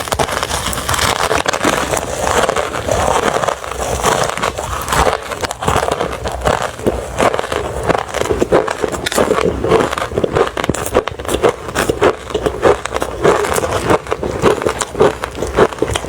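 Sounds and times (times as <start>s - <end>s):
crushed ice being chewed: 0.0s - 16.0s.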